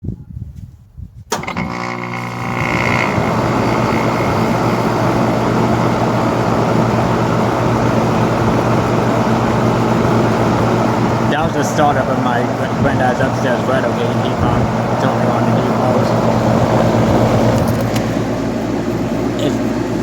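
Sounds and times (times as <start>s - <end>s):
heat pump fan and compressor: 1.2s - 20.0s.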